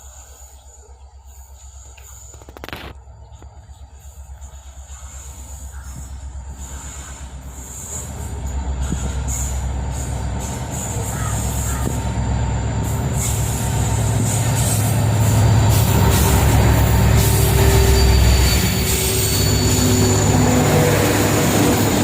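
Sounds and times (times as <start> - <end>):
locomotive engine rumble: 0.0 - 22.0
rail noise: 0.0 - 22.0.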